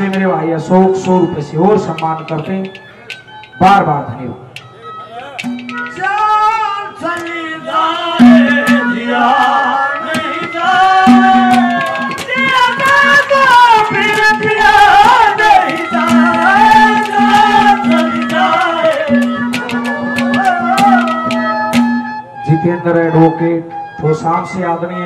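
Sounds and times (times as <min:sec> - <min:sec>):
hand drum strokes: 0:00.0 - 0:03.9, 0:04.5 - 0:22.2.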